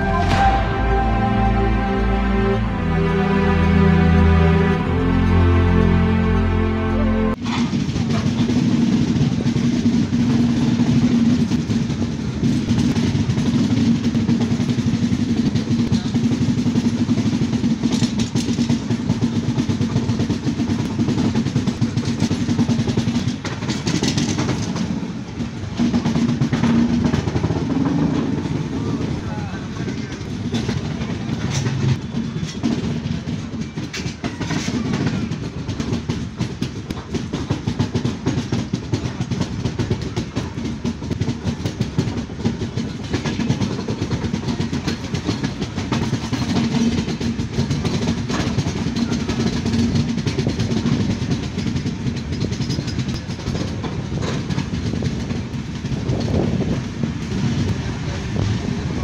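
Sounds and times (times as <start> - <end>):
train wheels clickety-clack on rails: 7.3 - 59.0.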